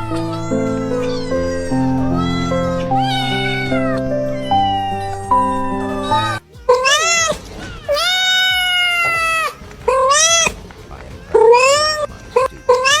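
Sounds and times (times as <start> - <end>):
cat meowing: 0.0 - 10.6.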